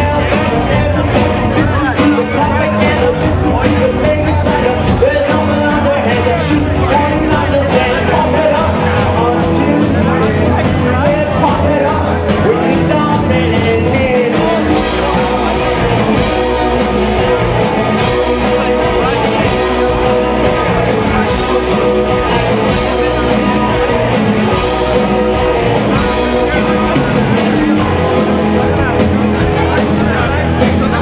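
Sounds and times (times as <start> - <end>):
live rock band playing: 0.0 - 31.0
person singing: 0.0 - 31.0.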